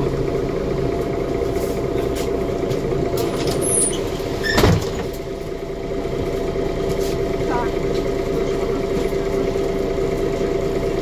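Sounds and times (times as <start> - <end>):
bus diesel engine hum: 0.0 - 11.0.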